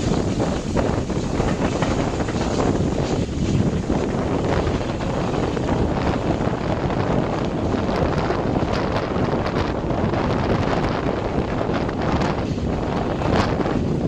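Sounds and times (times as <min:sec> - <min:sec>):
train running on track: 0:00.0 - 0:14.0
wind buffeting microphone: 0:00.0 - 0:14.0.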